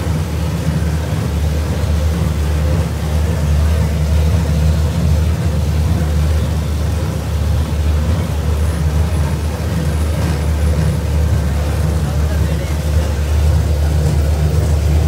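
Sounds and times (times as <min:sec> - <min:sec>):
ride train rumbling on track: 0:00.0 - 0:15.0.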